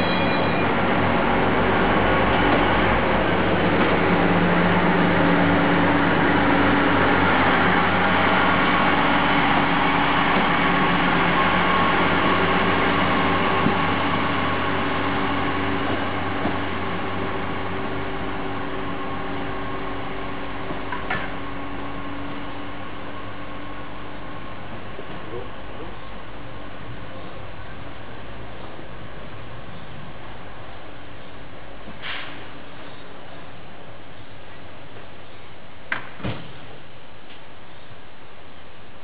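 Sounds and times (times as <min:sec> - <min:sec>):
diesel railcar pulling away: 0:00.0 - 0:39.0.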